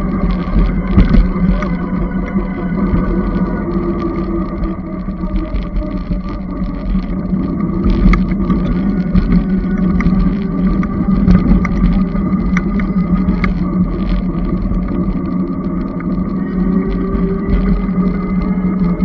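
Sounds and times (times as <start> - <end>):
continuous low hum: 0.0 - 19.0
wind and road noise: 0.0 - 19.0.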